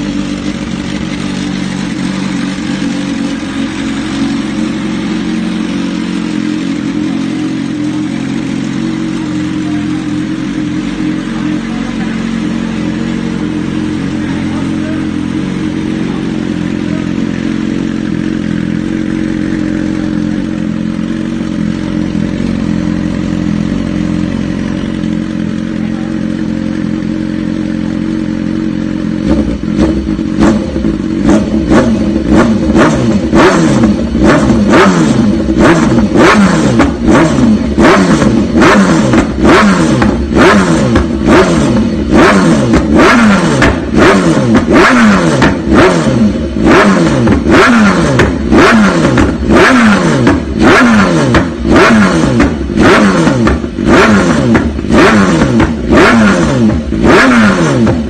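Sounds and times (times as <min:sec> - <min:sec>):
motorcycle engine idling: 0:00.0 - 0:58.0
motorcycle engine revving: 0:00.0 - 0:58.0.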